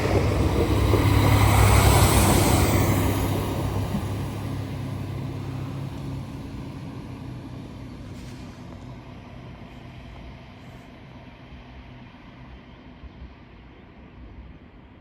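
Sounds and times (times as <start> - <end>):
train hum and rumble: 0.0 - 15.0.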